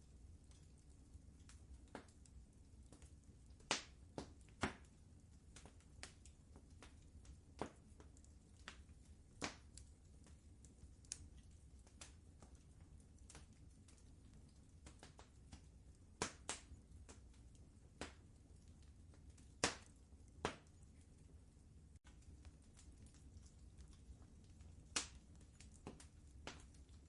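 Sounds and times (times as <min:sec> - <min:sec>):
low fire rumble: 0:00.0 - 0:27.0
wood fire crackling: 0:00.0 - 0:27.0.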